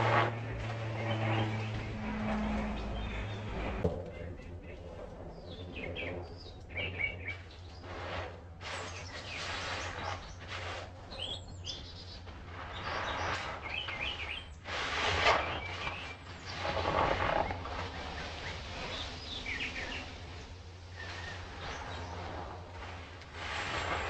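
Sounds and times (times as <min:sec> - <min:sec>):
wild birds chirping: 0:00.3 - 0:14.6, 0:15.4 - 0:22.9.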